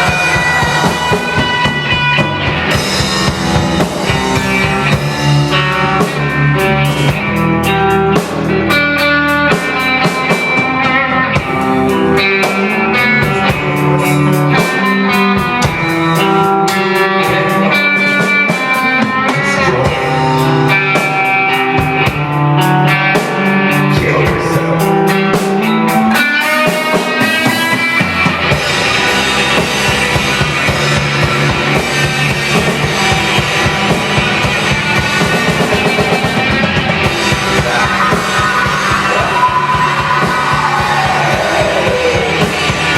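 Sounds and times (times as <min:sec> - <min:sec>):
drum kit playing: 0:00.0 - 0:42.9
electric guitar: 0:00.0 - 0:42.9.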